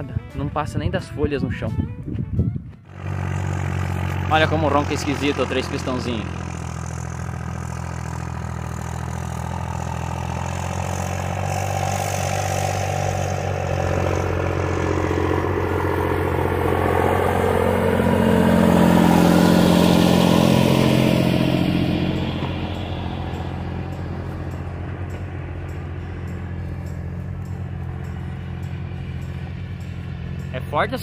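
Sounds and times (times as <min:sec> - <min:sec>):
tractor engine rumbling: 0:02.8 - 0:31.0.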